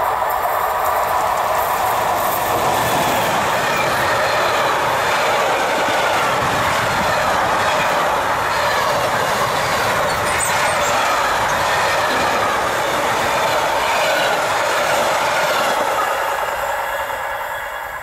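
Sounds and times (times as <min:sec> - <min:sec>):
wheels rumbling on rails: 0:00.0 - 0:16.7
freight train passing: 0:00.0 - 0:18.0.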